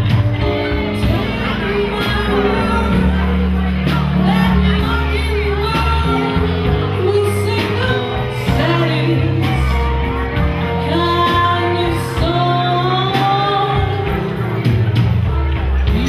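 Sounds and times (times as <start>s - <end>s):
drum kit with cymbals: 0.0s - 16.0s
woman singing into microphone: 0.4s - 16.0s.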